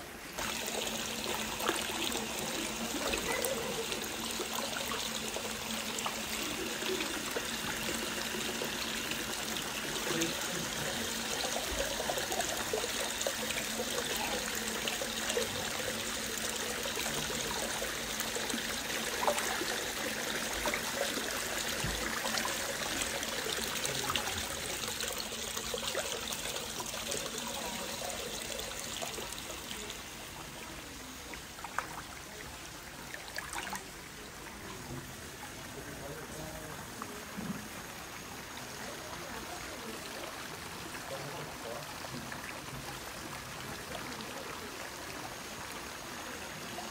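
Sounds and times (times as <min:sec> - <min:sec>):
water trickling into a bath: 0:00.2 - 0:46.9.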